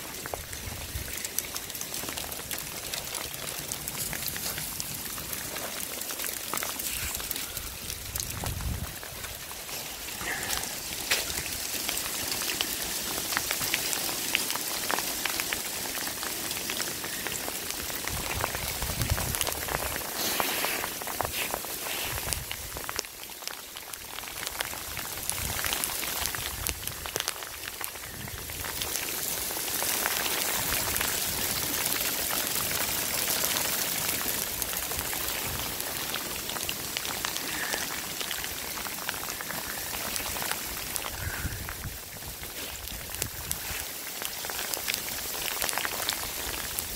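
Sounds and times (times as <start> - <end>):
hail pattering on cars and pavement: 0.0 - 46.9.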